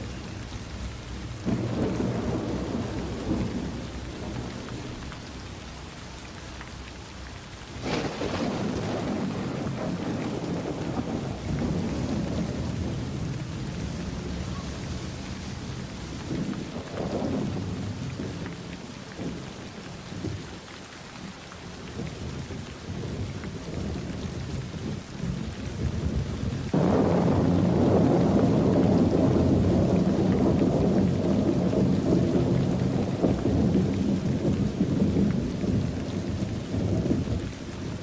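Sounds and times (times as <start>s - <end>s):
steady rain: 0.0s - 38.0s
rolling thunder rumbling: 1.0s - 5.9s, 7.7s - 20.4s, 21.9s - 38.0s.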